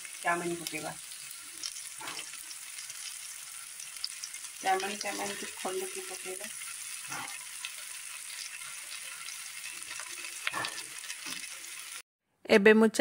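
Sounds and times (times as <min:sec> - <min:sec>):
noodles sizzling in a wok: 0:00.0 - 0:12.0.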